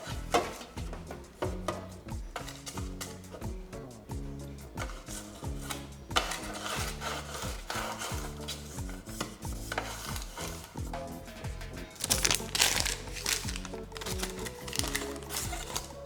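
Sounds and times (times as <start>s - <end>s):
background music with steady beat: 0.0s - 16.0s
rough rubbing and scraping: 0.0s - 16.0s.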